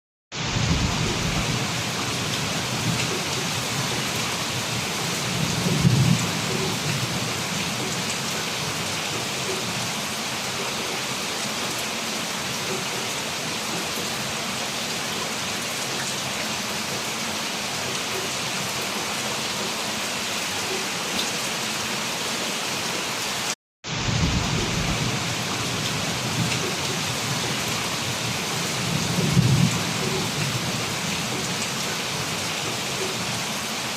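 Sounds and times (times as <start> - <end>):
heavy rain pouring: 0.3 - 33.9.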